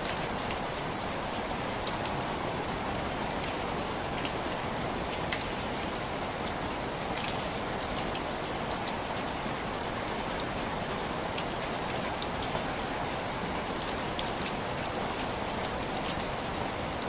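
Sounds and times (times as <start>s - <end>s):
rain on window glass: 0.0s - 17.0s.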